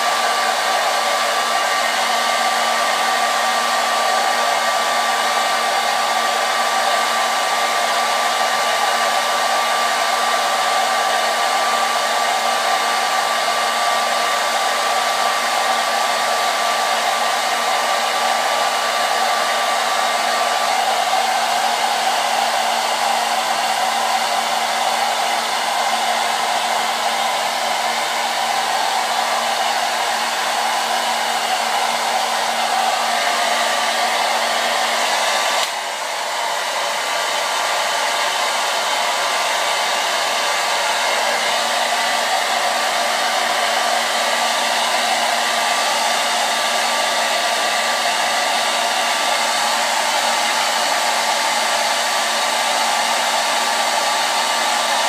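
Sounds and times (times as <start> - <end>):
hair dryer blowing: 0.0 - 55.0.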